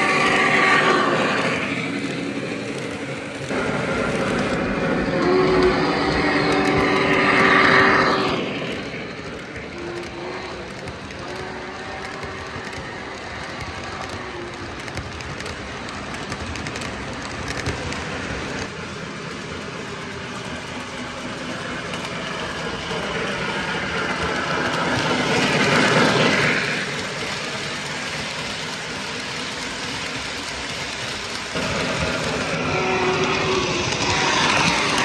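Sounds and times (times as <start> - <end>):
model train rumble and wheel clatter: 0.0 - 35.0.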